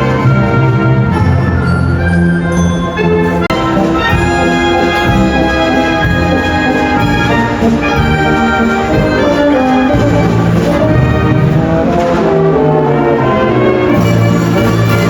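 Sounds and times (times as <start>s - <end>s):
brass ensemble music: 0.0s - 15.0s.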